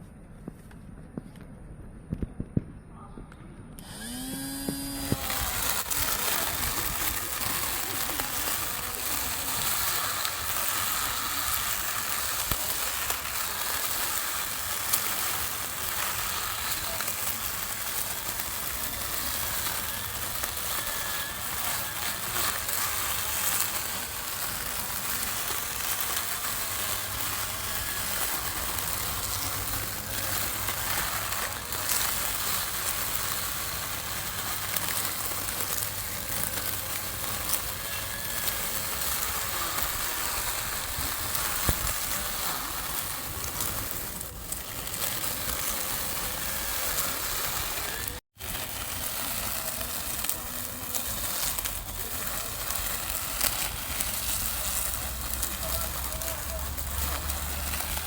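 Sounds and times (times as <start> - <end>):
lawn mower running: 3.8 - 58.0.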